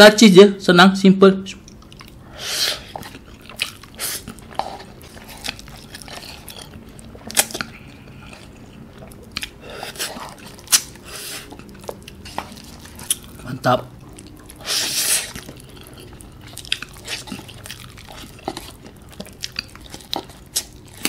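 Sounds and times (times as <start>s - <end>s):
person chewing noodles: 1.6s - 21.0s.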